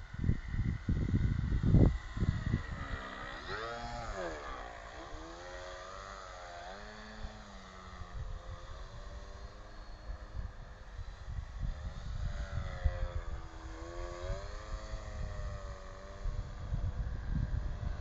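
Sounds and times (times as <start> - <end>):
wind buffeting microphone: 0.0 - 6.2, 6.8 - 18.0
model airplane motor whining: 0.0 - 18.0.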